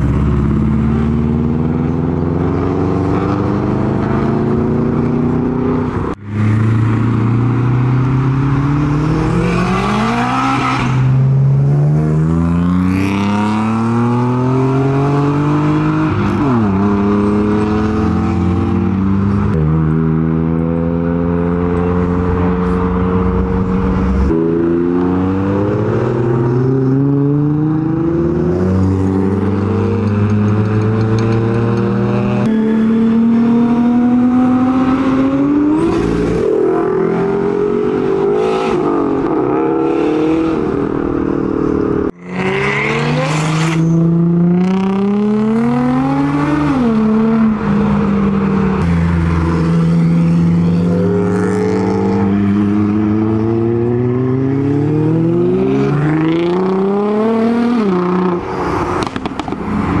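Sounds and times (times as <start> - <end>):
car engines revving: 0.0 - 60.0.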